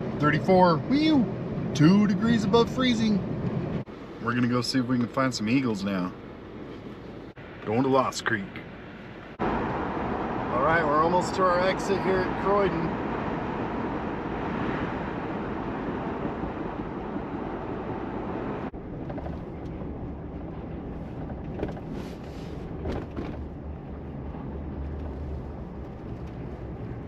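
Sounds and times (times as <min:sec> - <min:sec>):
low engine hum: 0:00.0 - 0:27.0
tyre and road noise: 0:00.0 - 0:27.0.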